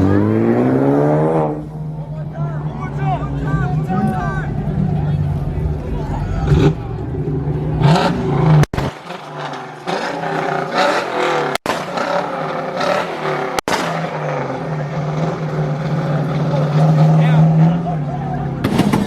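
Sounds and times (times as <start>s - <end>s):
car engines idling and revving: 0.0s - 19.0s
crowd noise: 0.0s - 19.0s.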